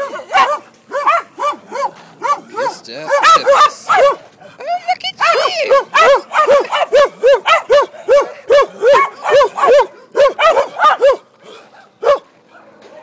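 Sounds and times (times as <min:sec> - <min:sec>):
dog barking angrily: 0:00.0 - 0:04.5, 0:05.2 - 0:13.0.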